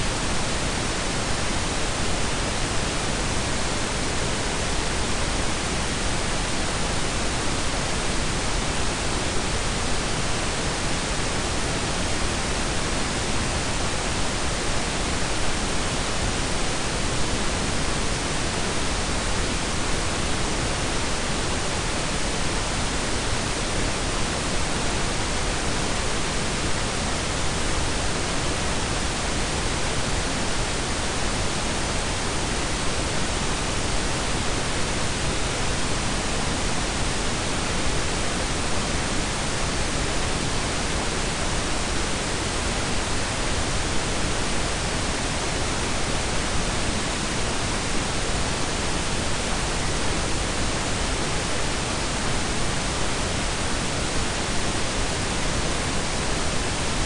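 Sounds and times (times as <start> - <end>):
steady noise hiss with rumble: 0.0 - 57.0.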